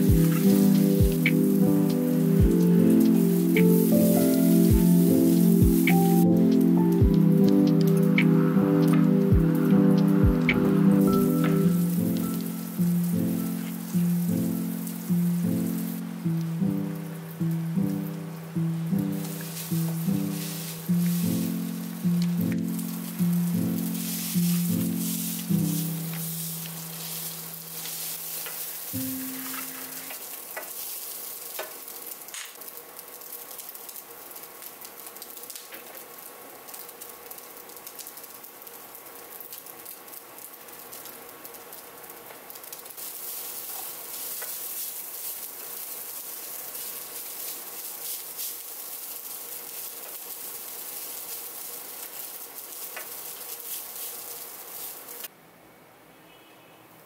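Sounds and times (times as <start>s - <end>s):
rice sizzling in a pan: 0.0s - 55.3s.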